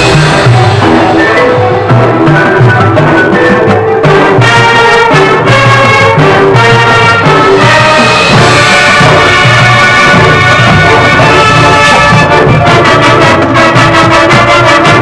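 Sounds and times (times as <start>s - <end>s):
brass: 0.0s - 15.0s
marching band playing: 0.0s - 15.0s
percussion: 0.0s - 15.0s.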